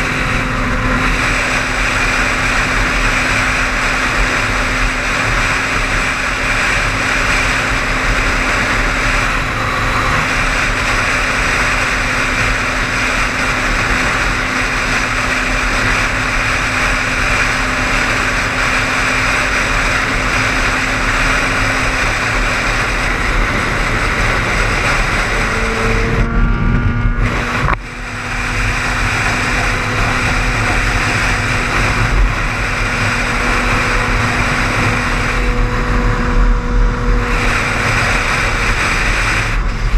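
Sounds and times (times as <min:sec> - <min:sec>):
car cabin road noise: 0:00.0 - 0:39.9.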